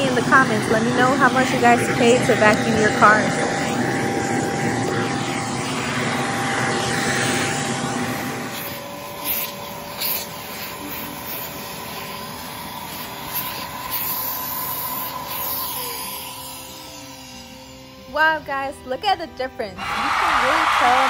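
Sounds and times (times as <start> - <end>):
vacuum cleaner suction: 0.0 - 18.4.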